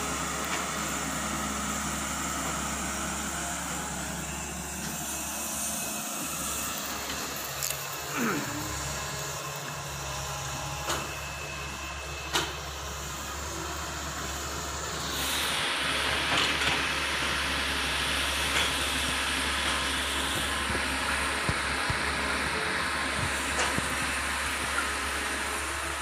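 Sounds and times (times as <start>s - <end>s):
excavator diesel engine hum: 0.0s - 26.0s.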